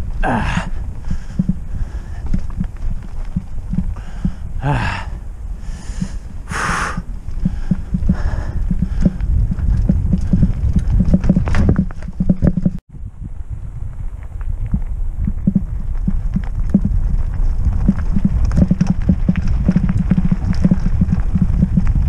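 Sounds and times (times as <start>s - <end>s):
mountain bike rattling: 0.0s - 22.0s.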